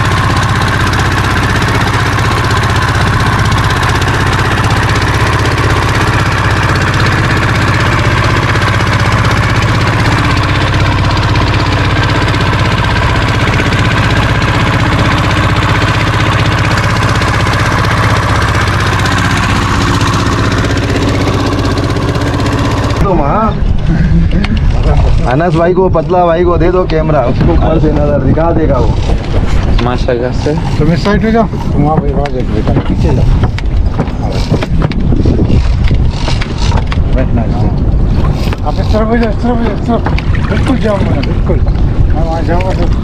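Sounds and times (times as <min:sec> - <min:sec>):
boat engine deep drone: 0:00.0 - 0:43.0.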